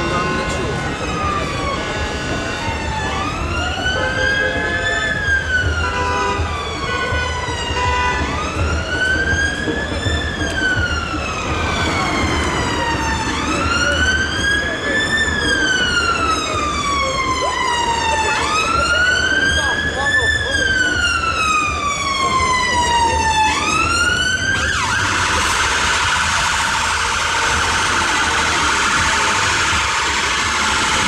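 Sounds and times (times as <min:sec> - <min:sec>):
siren wailing: 0:00.0 - 0:31.0.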